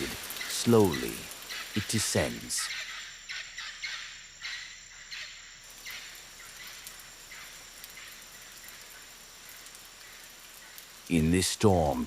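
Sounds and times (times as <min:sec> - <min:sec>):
rain falling on foliage: 0:00.0 - 0:12.0.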